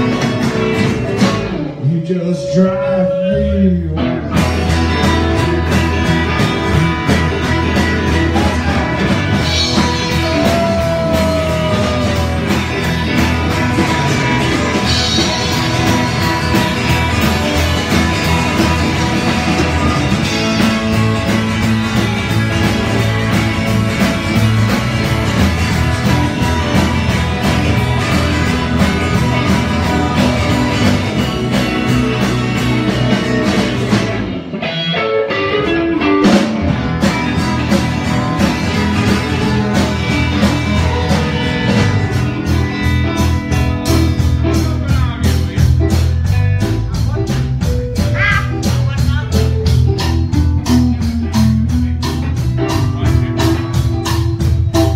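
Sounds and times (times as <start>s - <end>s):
steady drum beat: 0.0s - 2.5s, 4.2s - 34.5s, 36.0s - 54.9s
acoustic guitar: 0.0s - 54.9s
electric guitar: 0.0s - 54.9s.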